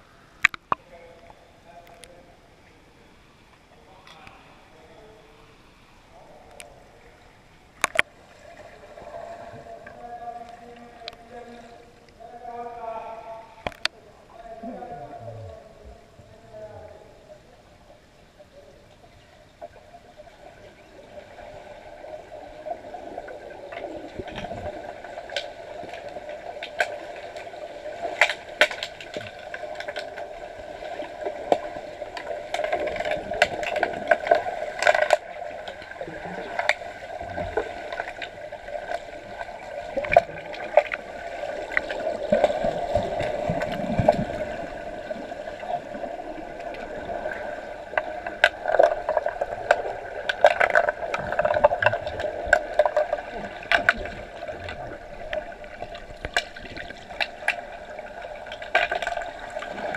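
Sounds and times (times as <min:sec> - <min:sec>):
muffled underwater rush: 0:00.0 - 0:59.9.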